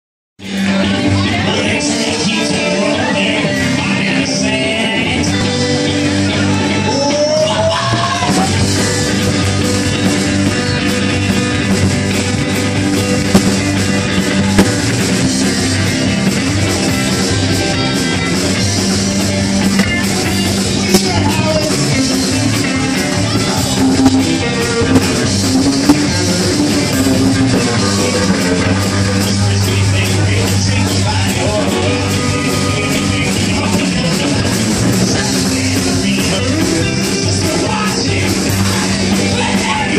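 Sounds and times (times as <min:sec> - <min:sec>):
bass guitar: 0:00.4 - 0:39.9
drums: 0:00.4 - 0:39.9
electric guitars: 0:00.4 - 0:39.9.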